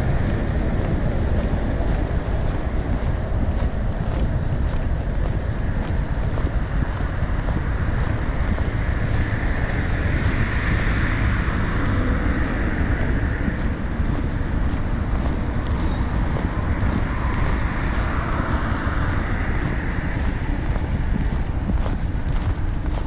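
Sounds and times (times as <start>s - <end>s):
wind buffeting microphones: 0.0s - 23.0s.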